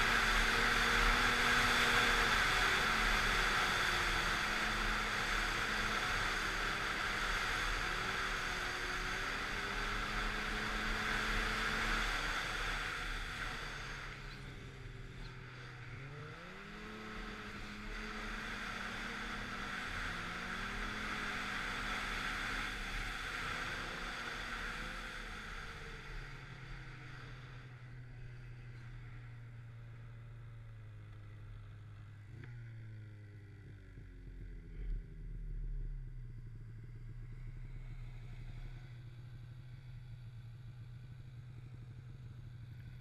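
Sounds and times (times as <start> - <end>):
snowmobile engine: 0.0 - 43.0.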